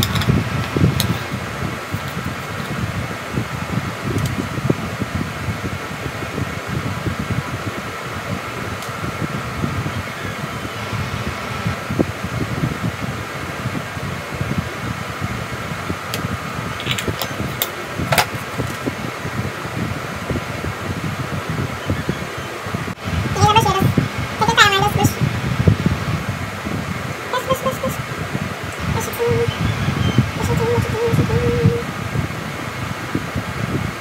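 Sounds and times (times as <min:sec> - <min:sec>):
room fan whirring: 0:00.0 - 0:34.0.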